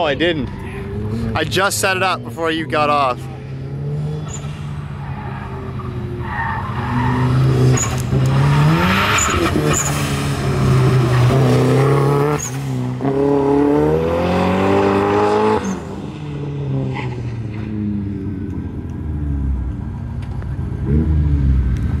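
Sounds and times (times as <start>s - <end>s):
car engine accelerating: 0.1s - 22.0s.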